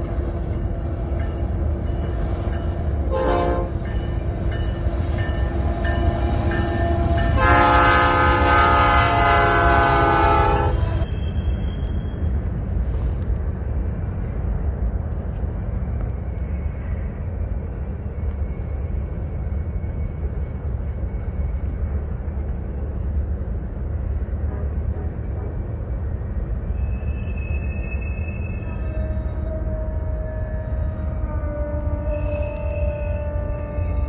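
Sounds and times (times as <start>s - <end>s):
distant freight train rumbling: 0.0s - 34.0s.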